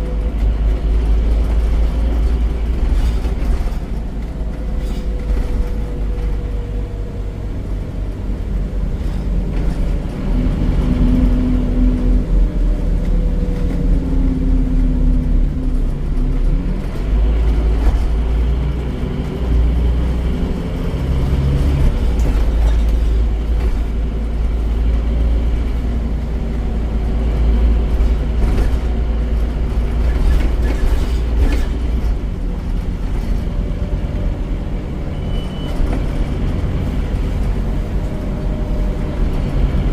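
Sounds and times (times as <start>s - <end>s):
bus diesel engine: 0.0s - 39.9s.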